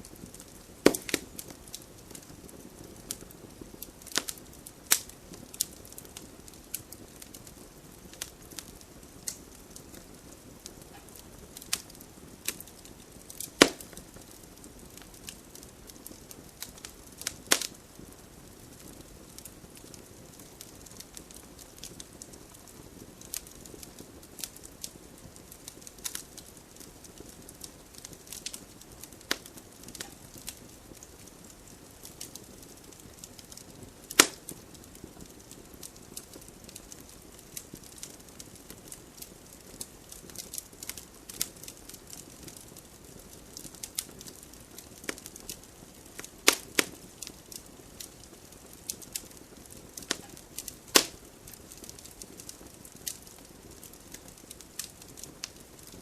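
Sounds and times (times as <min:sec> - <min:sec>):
low hiss of burning: 0:00.0 - 0:56.0
campfire pops and snaps: 0:00.1 - 0:56.0.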